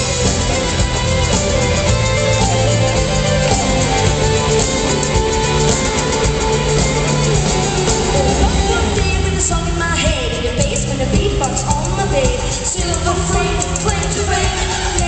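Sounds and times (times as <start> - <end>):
held bass notes: 0.0 - 12.2
live rock band instrumental: 0.0 - 15.0.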